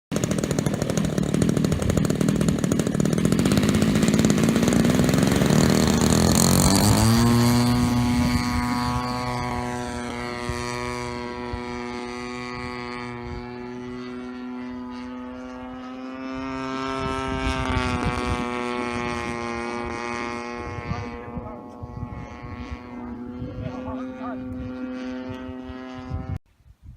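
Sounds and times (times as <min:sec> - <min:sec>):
model plane engine drone: 0:00.1 - 0:26.4.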